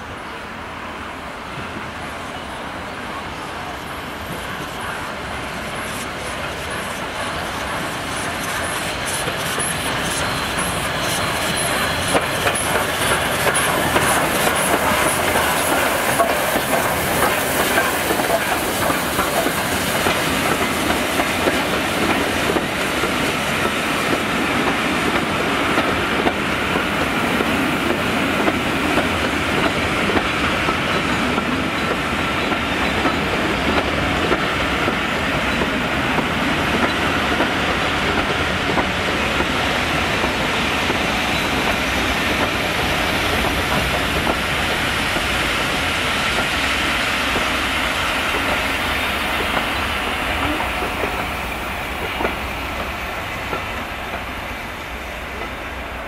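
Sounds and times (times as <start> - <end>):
train wheels clattering on rails: 4.2 - 56.0.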